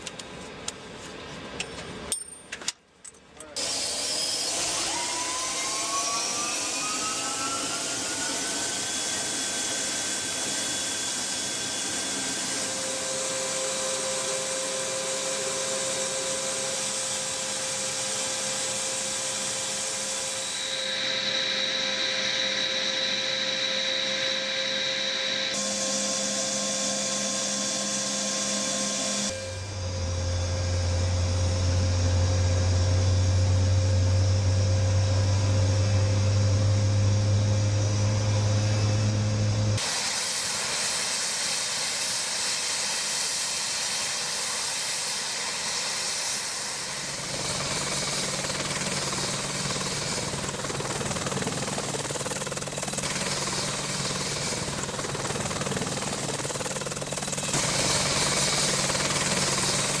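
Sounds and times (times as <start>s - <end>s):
helicopter low hum: 3.5s - 60.0s
hissing turbine rush: 3.6s - 60.0s.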